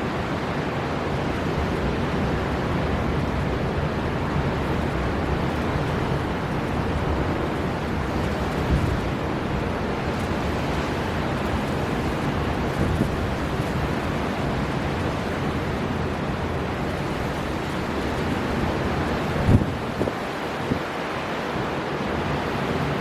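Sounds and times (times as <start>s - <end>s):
sea surf surging: 0.0s - 23.0s
storm wind blowing hard: 0.0s - 23.0s.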